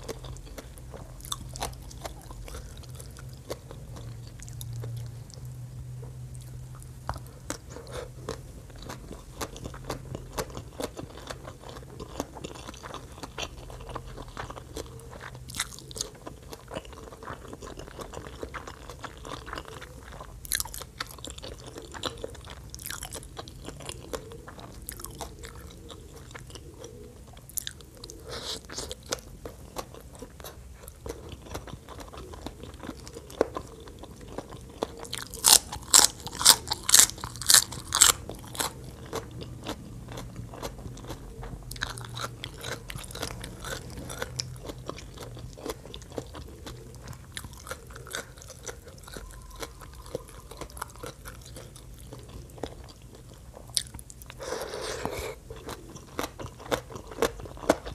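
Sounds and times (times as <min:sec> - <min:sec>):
chewing and crunching: 0:00.0 - 0:57.9.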